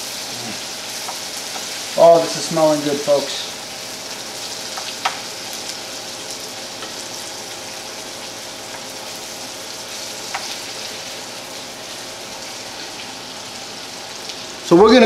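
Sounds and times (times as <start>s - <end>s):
meat sizzling in a skillet: 0.0s - 14.8s
range hood fan humming: 0.0s - 15.0s.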